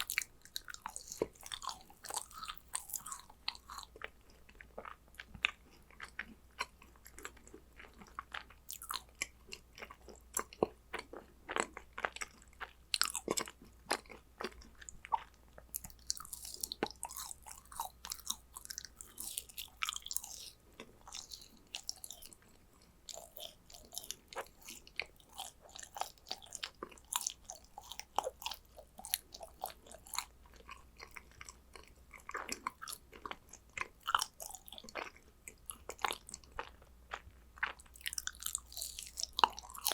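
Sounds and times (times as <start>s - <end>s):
chewing with wet mouth clicks: 0.0s - 39.9s
crackly chewing sound: 0.0s - 39.9s.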